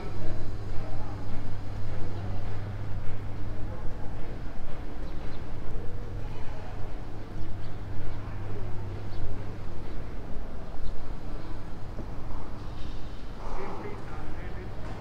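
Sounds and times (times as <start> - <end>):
faint background voices: 0.0 - 15.0.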